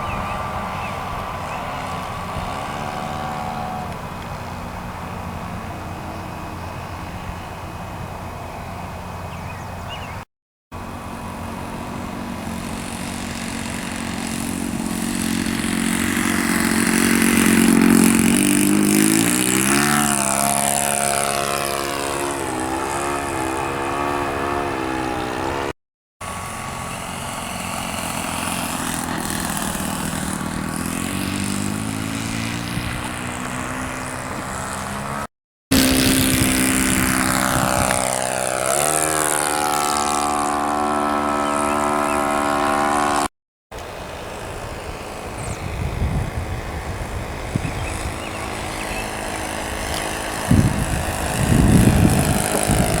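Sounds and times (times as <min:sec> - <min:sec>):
model plane engine running: 0:00.0 - 0:10.0, 0:10.7 - 0:53.0.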